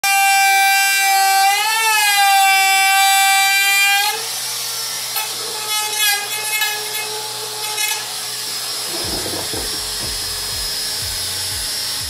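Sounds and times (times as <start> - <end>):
router cutting wood: 0.0 - 12.0.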